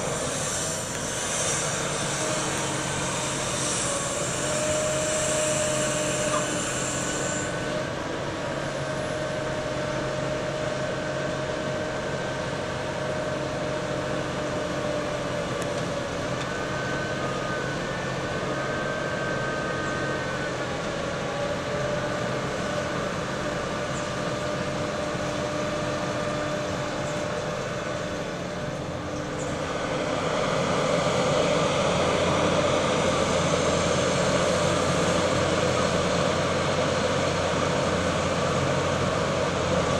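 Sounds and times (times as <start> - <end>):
heavy construction machinery running: 0.0 - 39.9
held whining tones: 0.0 - 39.9.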